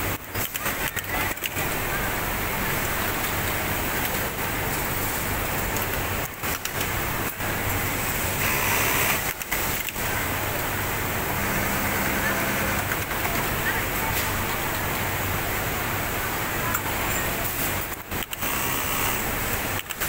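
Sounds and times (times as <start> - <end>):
industrial sewing machines running: 0.0 - 16.0, 17.0 - 20.0.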